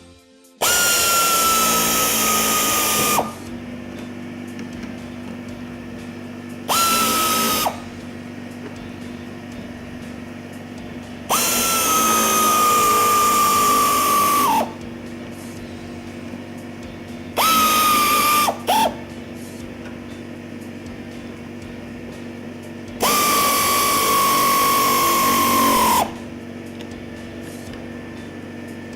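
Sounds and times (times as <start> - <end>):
air ratchet whining: 0.6 - 28.9
steady low hum: 1.2 - 28.9.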